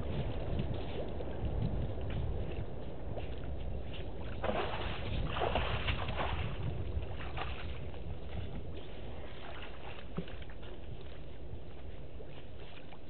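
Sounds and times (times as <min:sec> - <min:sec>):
elephant feet splashing in water: 0:00.0 - 0:11.4
wind rumble on microphone: 0:00.0 - 0:13.0.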